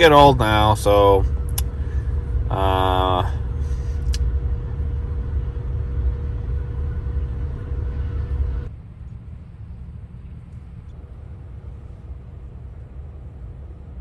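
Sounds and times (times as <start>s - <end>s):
faint steady hum: 0.0s - 14.0s
vehicle rumbling from inside cabin: 0.0s - 14.0s.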